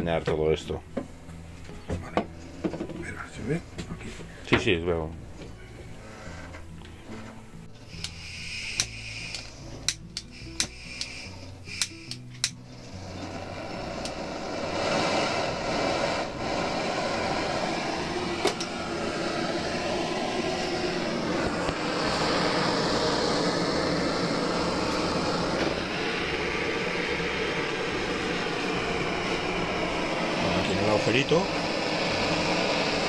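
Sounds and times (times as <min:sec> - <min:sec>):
blowtorch hissing: 0:02.0 - 0:04.6, 0:05.3 - 0:33.0.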